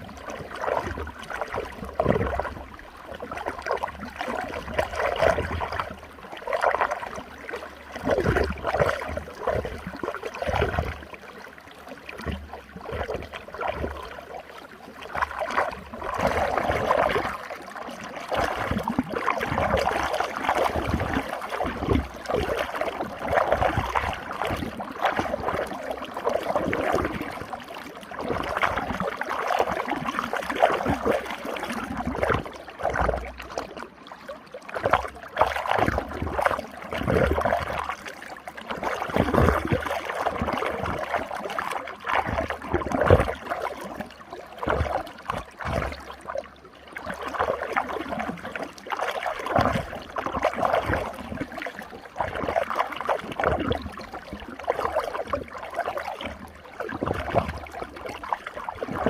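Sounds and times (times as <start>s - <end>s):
water rushing in a whirlpool: 0.0s - 59.0s.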